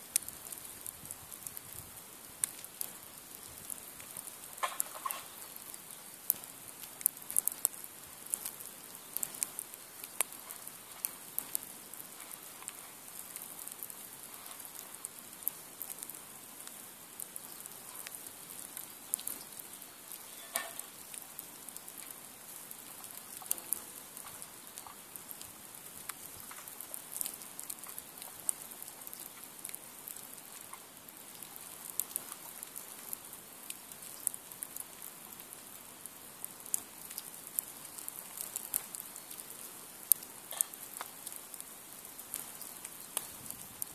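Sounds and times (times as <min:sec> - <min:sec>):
fire hissing: 0:00.0 - 0:43.9
log fire crackling and popping: 0:00.0 - 0:43.9.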